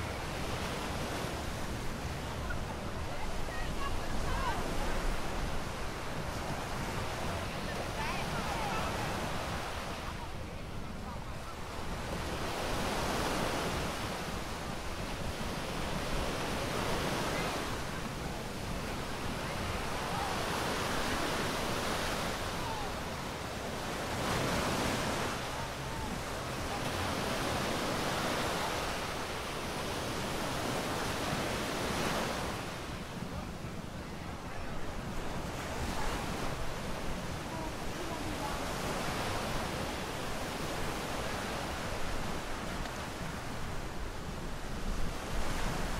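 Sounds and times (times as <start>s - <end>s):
ocean waves breaking on sand: 0.0s - 45.9s
wind rumble on microphone: 0.0s - 45.9s.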